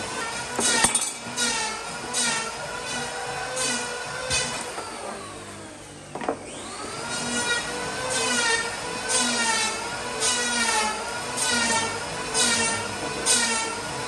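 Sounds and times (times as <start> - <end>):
power tool cutting wood: 0.0 - 14.0.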